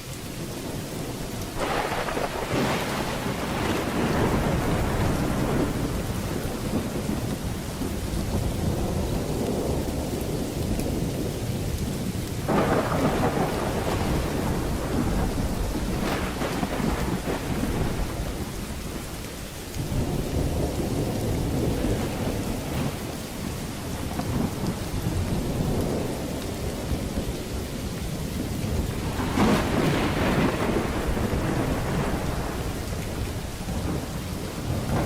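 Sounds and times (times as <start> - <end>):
rain hissing: 0.0 - 35.0
thunder rumbling: 0.0 - 35.0.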